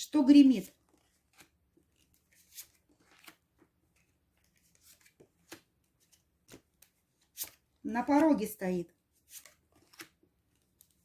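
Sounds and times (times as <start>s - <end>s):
cards clicking and rustling: 0.8s - 8.5s, 9.2s - 11.0s.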